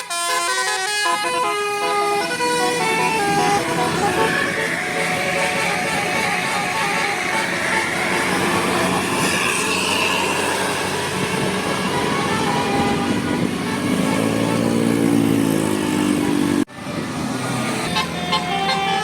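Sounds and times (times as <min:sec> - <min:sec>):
bus engine running: 0:00.0 - 0:19.0
road traffic noise: 0:00.0 - 0:19.0.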